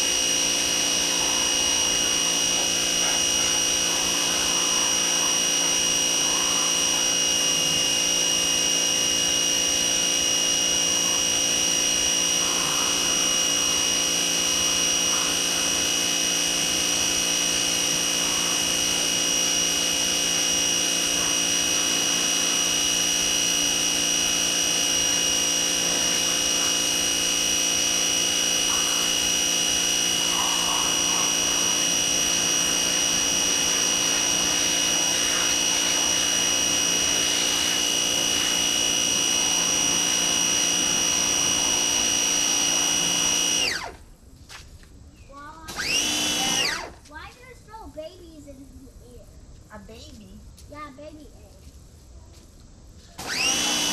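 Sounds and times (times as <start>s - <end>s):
pressure washer whining: 0.0s - 44.1s, 45.7s - 47.2s, 53.2s - 53.9s.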